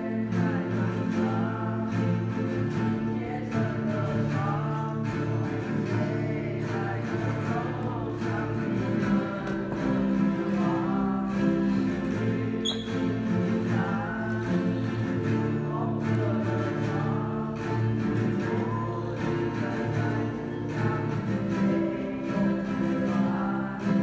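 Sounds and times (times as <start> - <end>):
acoustic guitars playing together: 0.0 - 24.0.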